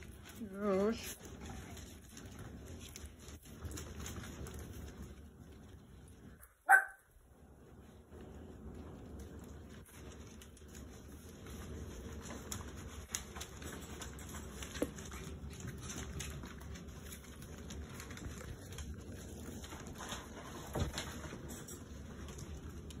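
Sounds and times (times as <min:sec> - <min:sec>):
paws pattering on floor: 0:00.0 - 0:23.0.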